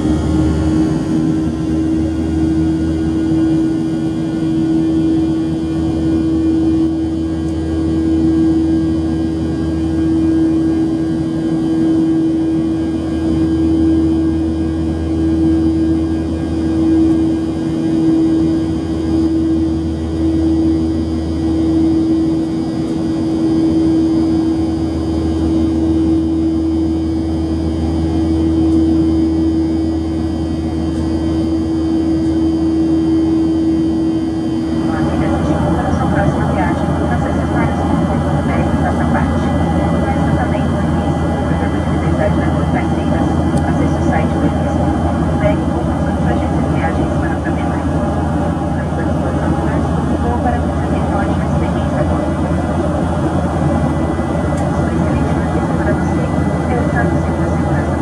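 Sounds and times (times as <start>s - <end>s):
airplane cabin engine drone: 0.0s - 58.0s.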